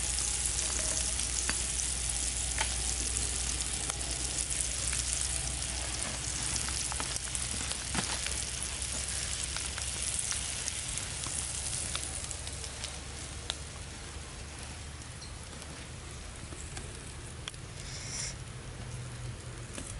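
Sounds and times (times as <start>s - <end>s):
sausages sizzling and popping: 0.0s - 19.9s.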